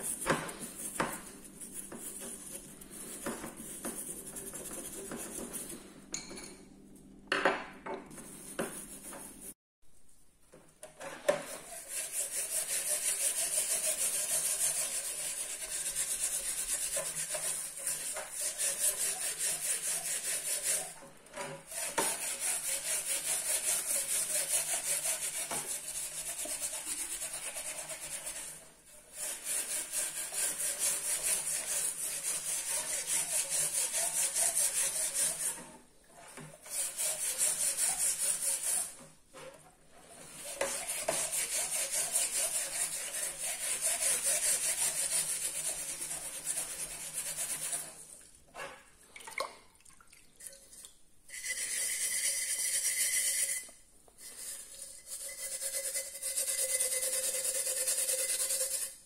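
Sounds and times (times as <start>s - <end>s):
fast rubbing or scraping strokes: 0.0s - 5.9s, 11.1s - 21.0s, 21.7s - 39.0s, 39.9s - 48.0s, 51.3s - 59.0s.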